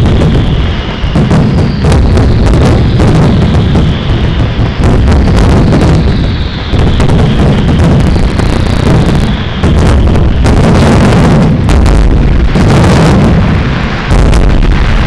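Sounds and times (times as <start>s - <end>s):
fireworks booming: 0.0s - 15.0s
fireworks cracking and crackling: 0.0s - 15.0s.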